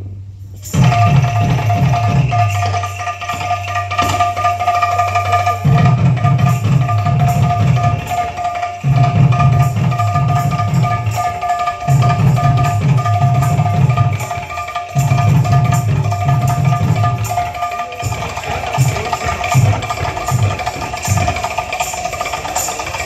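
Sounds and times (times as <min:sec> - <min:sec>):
hand cymbals ringing: 0:00.3 - 0:23.0
hand drum fast rhythm: 0:00.7 - 0:23.0.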